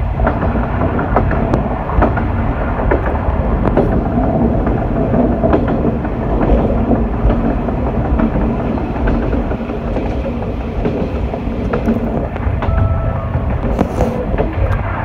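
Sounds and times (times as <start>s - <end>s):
railcar engine and wheels rumble: 0.0s - 15.0s
wheels clicking over rail joints: 0.0s - 15.0s.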